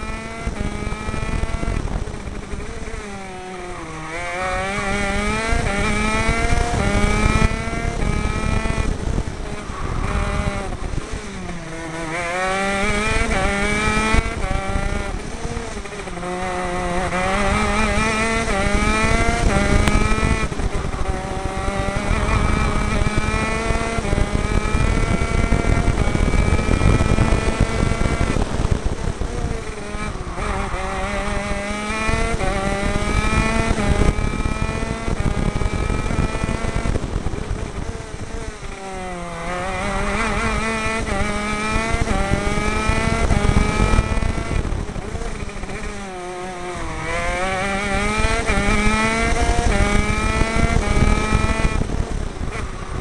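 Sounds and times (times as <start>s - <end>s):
kart engine revving: 0.0s - 53.0s.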